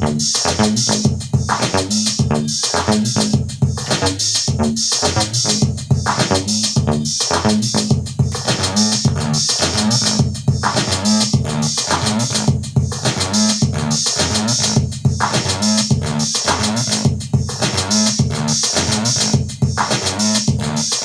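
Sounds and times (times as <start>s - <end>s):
programmed drum beat: 0.0s - 21.0s.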